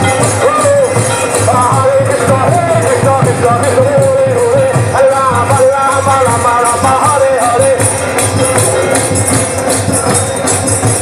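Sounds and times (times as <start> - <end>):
jingling tambourine: 0.0 - 11.0
steady drum beat: 0.0 - 11.0
group chanting and singing: 0.2 - 9.4.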